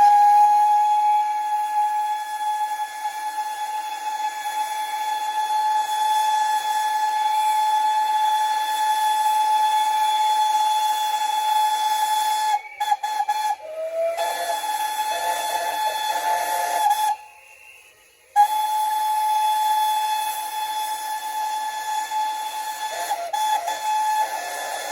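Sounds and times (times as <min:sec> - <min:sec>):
steam hissing: 0:00.0 - 0:24.9
steam locomotive whistle: 0:00.0 - 0:24.9.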